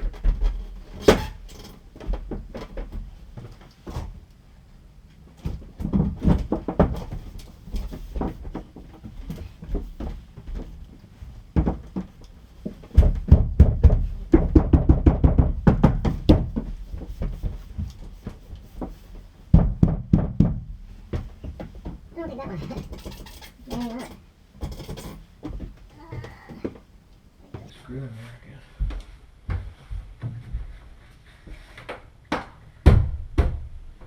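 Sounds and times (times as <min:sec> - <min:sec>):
knocks and thumps of building work: 0:00.0 - 0:04.3, 0:05.1 - 0:27.7, 0:28.8 - 0:34.0.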